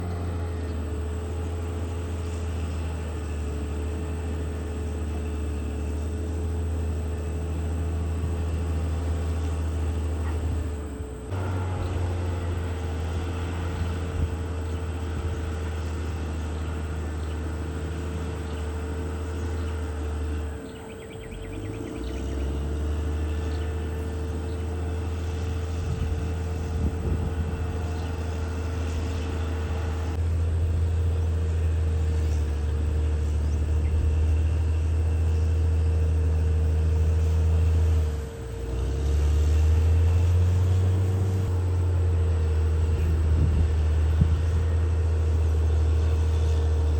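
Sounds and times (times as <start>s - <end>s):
bulldozer diesel engine droning: 0.0s - 46.9s.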